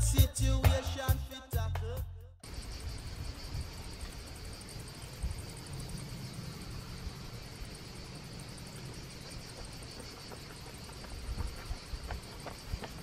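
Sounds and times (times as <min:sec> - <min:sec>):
insect chorus: 0:02.4 - 0:13.0.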